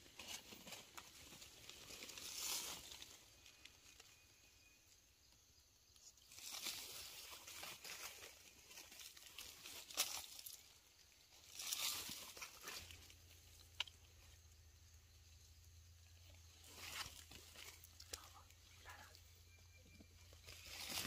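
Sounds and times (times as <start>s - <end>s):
rustling of dry leaves and soil: 0.0s - 21.0s.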